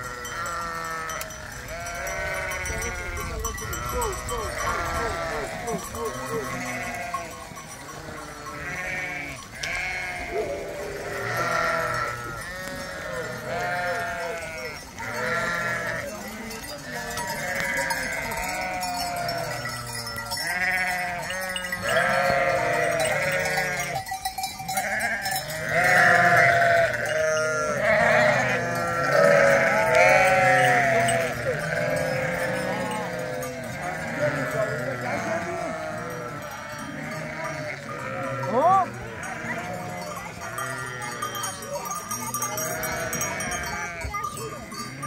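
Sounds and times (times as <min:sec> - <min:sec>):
goats and sheep bleating: 0:00.0 - 0:45.0.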